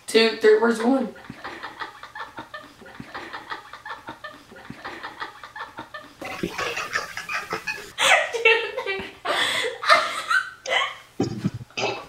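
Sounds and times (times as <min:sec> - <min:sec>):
person giggling: 0:00.9 - 0:11.7.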